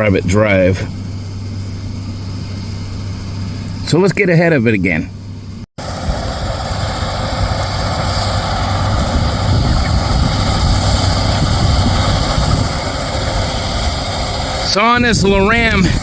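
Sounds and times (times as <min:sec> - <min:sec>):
heavy diesel machinery rumbling: 0:00.0 - 0:16.0.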